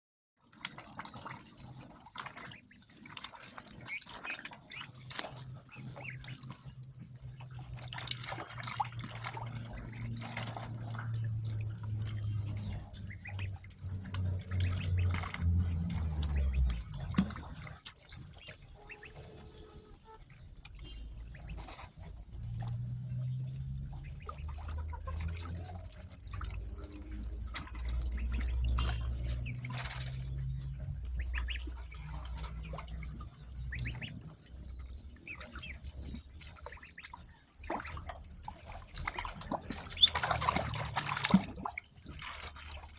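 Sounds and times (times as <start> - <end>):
ducklings splashing in water: 0.4 - 42.9
water drips: 0.4 - 42.9
low hum: 4.8 - 42.9.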